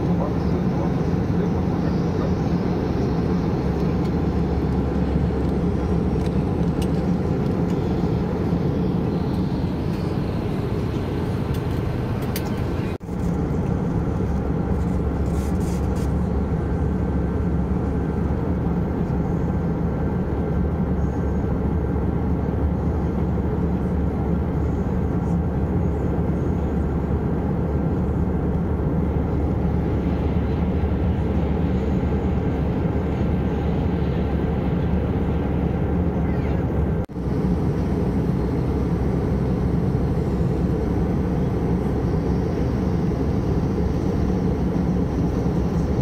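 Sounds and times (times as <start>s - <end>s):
airplane cabin engine roar: 0.0s - 46.0s.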